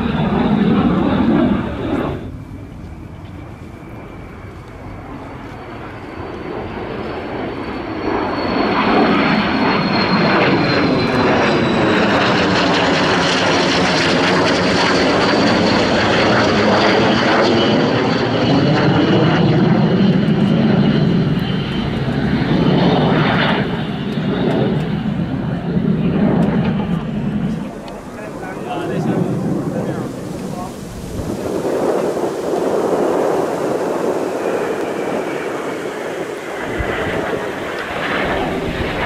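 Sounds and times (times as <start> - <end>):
jet engines roaring past: 0.0 - 39.0
jet whooshing past: 5.1 - 39.0.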